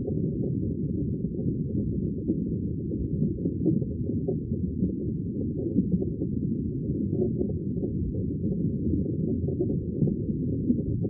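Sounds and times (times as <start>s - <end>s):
muffled underwater water wash: 0.0s - 11.0s.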